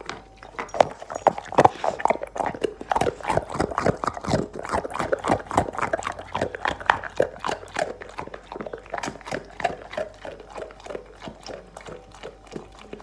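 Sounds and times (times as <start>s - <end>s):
dog chewing and lip-smacking: 0.0s - 13.0s.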